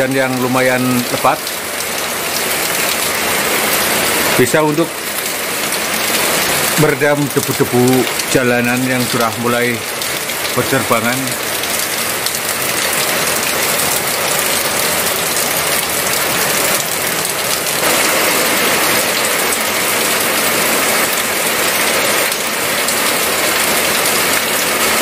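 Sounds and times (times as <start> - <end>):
heavy rain: 0.0 - 25.0.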